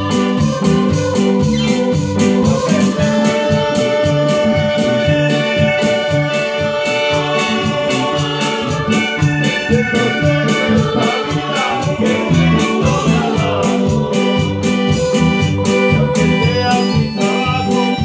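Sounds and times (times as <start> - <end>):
bass line: 0.0 - 18.0
organ-like keyboards: 0.0 - 18.0
steady beat: 0.0 - 18.0.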